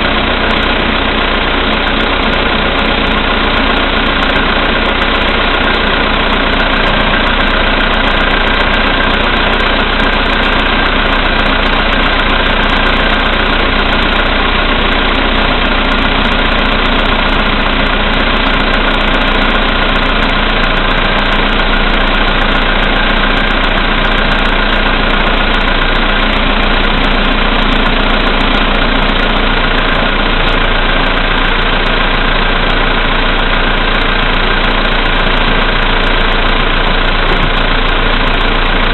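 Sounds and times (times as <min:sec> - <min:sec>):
car engine idling: 0:00.0 - 0:38.9
engine knock: 0:00.0 - 0:38.9.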